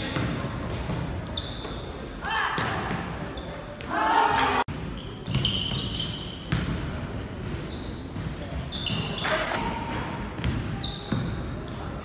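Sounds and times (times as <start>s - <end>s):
sneakers squeaking on court: 0.0s - 3.9s, 4.7s - 12.0s.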